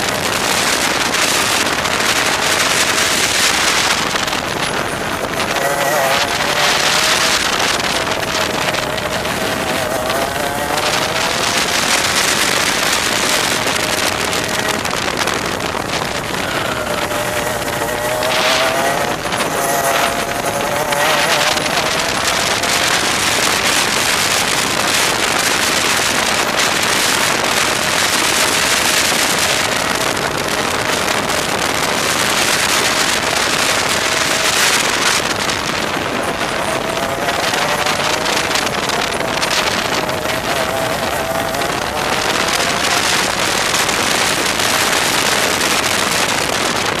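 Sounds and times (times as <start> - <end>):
kart engine racing: 0.0 - 47.0
wind and intake rush: 0.0 - 47.0.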